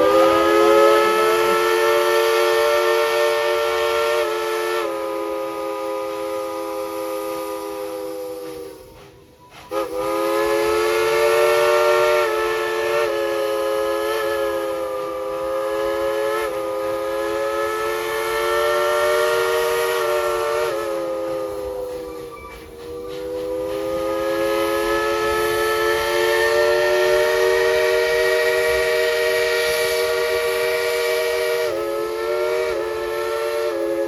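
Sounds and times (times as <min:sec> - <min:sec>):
steam locomotive chime whistle: 0:00.0 - 0:34.0.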